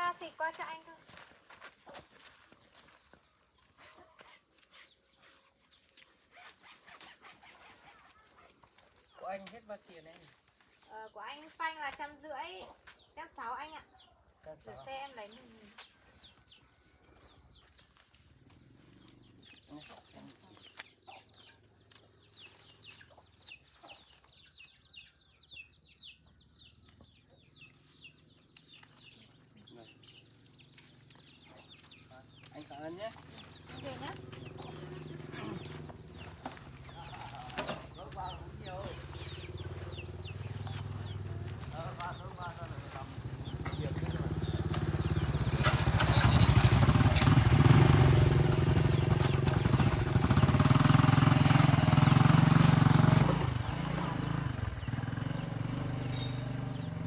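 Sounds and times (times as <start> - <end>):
insect chirping trill: 0.0 - 57.0.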